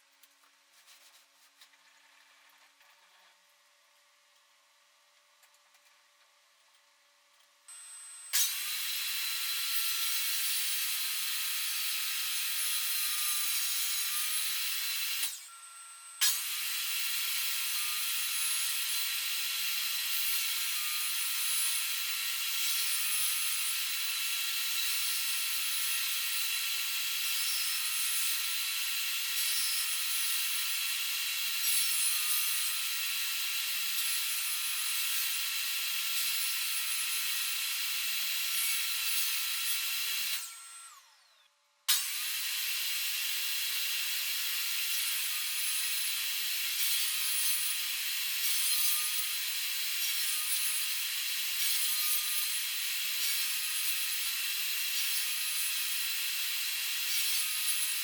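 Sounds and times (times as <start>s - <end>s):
power tool cutting wood: 7.7s - 58.0s.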